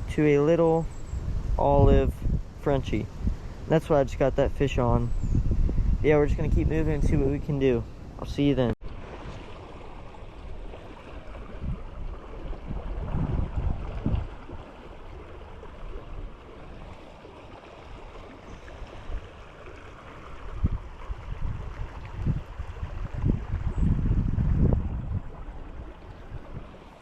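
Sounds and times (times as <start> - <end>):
creek water running: 0.0 - 27.0.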